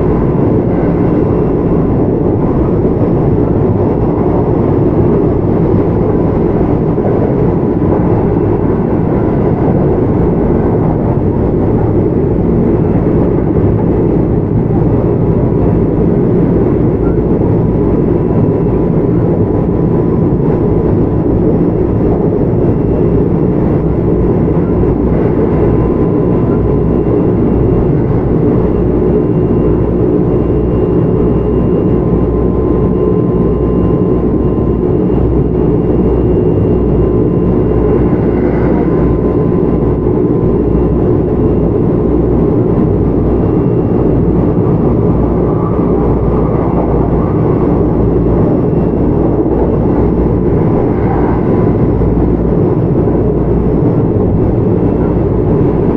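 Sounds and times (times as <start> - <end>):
thin steady whine: 0.0 - 55.9
train wheels rumbling on rail: 0.0 - 55.9.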